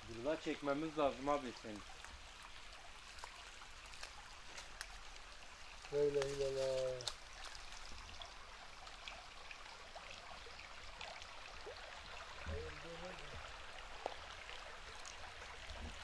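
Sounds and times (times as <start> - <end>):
running water: 0.0 - 16.0
small splashes and ticks: 0.0 - 16.0.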